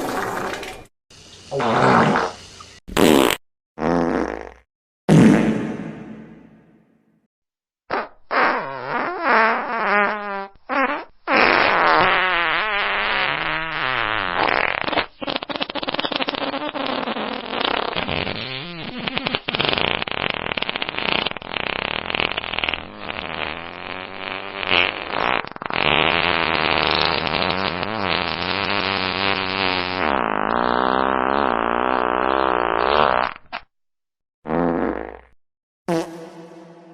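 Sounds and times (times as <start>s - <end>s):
fart sound effects: 1.5s - 6.9s, 7.9s - 33.7s, 34.5s - 36.9s.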